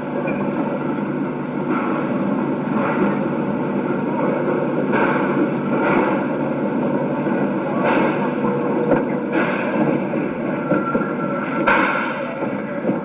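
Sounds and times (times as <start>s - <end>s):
locomotive exhaust chuffs: 0.0s - 13.0s
steam locomotive rushing noise: 0.0s - 13.0s.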